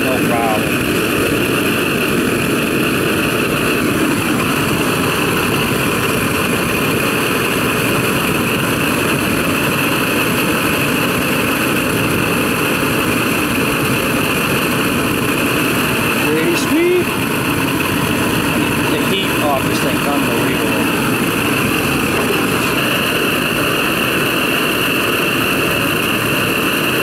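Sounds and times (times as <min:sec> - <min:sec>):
blow torch flame burning: 0:00.0 - 0:27.0.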